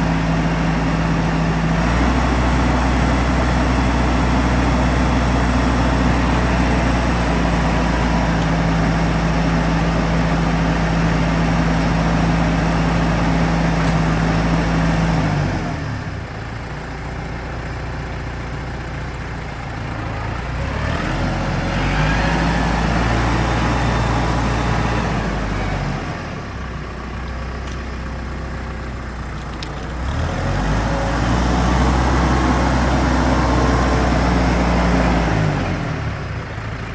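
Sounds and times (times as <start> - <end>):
tractor diesel engine revving: 0.0 - 27.6, 28.3 - 36.9.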